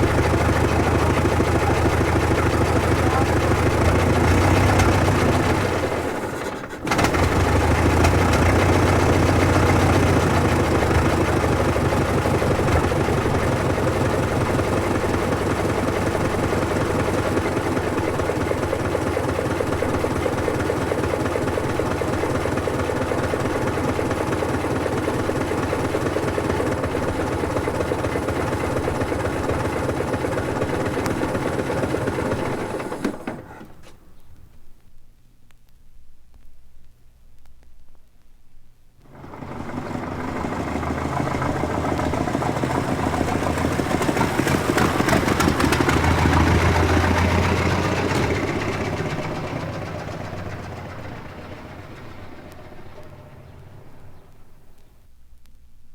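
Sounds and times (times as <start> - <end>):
old car engine running: 0.0 - 34.5, 39.1 - 55.0.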